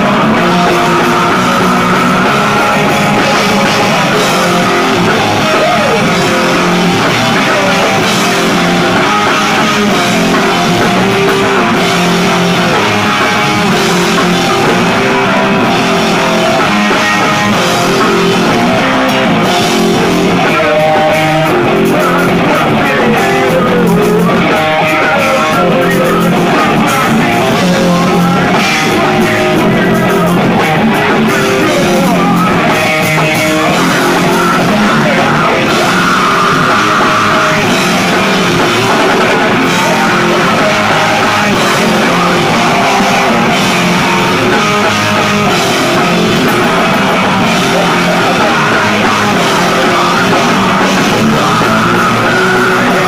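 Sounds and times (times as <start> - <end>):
rock band playing: 0.0 - 53.0.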